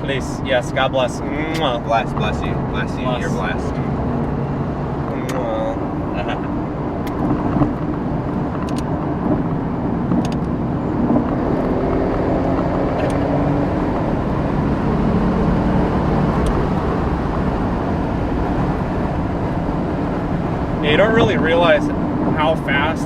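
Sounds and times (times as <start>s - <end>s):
car engine at speed: 0.0s - 23.0s
road and wind noise: 0.0s - 23.0s.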